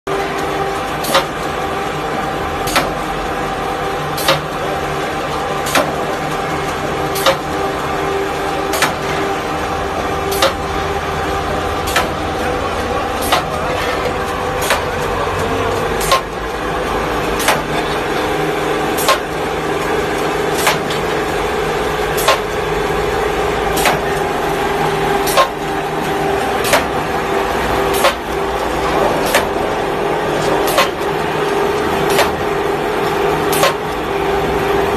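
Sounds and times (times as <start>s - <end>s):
machine mechanical hum: 0.1s - 34.9s.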